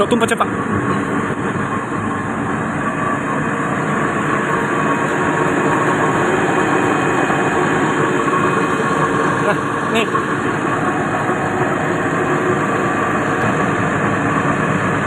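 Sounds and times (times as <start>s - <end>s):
excavator diesel engine idling: 0.0s - 15.0s.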